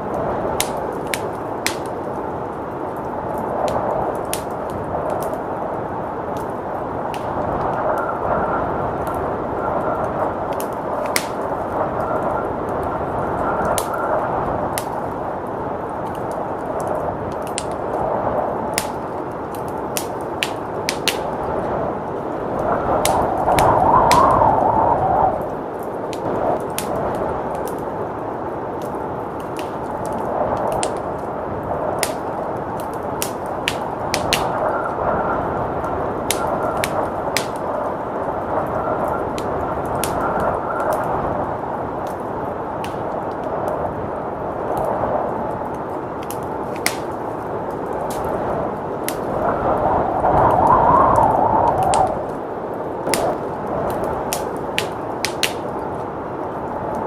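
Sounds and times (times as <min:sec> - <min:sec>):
blizzard wind rushing: 0:00.0 - 0:57.0
wood fire crackling: 0:00.0 - 0:57.0.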